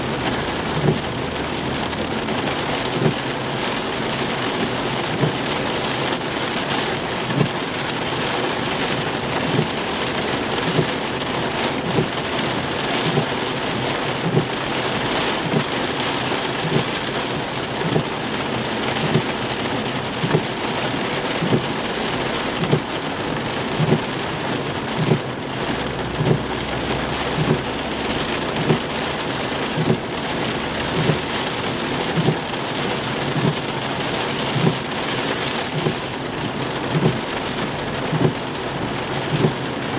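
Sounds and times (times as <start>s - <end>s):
heavy rain on car: 0.0s - 39.9s
windshield wipers thumping: 0.1s - 39.9s.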